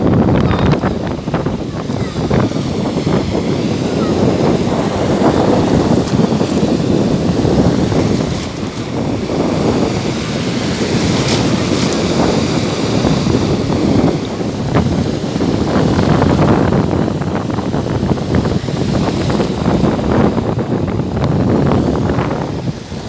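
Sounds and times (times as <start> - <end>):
surf washing on a beach: 0.0 - 23.0
wind buffeting microphone: 0.0 - 23.0.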